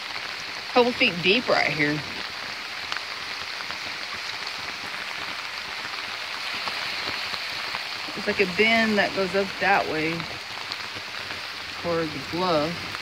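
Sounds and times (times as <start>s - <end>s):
flooded creek rushing: 0.0s - 13.0s
rain falling: 0.0s - 13.0s.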